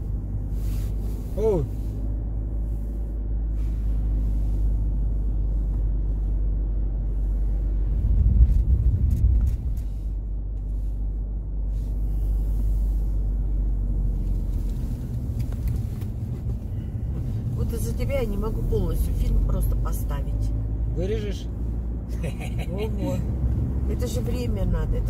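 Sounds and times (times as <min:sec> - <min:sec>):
car rumble from inside cabin: 0:00.0 - 0:25.0.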